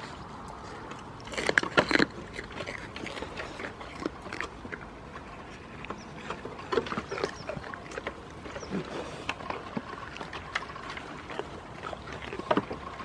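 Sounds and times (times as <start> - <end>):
goat crunching carrot: 0.0 - 13.0
chewing clicks: 0.4 - 13.0.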